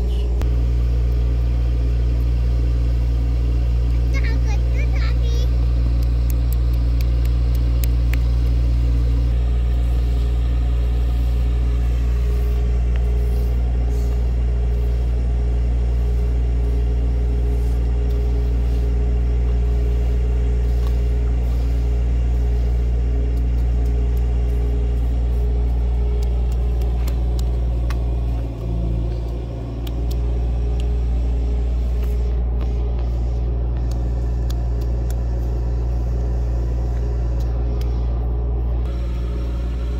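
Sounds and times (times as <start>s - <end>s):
machine rumbling and humming: 0.0s - 39.9s.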